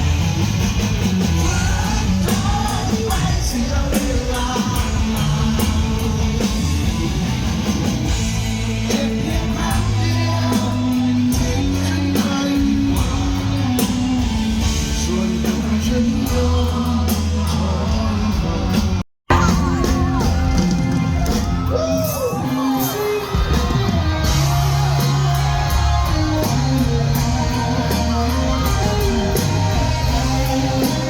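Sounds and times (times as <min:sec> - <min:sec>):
rock band playing: 0:00.0 - 0:31.0
person singing: 0:01.4 - 0:06.7, 0:08.7 - 0:31.0.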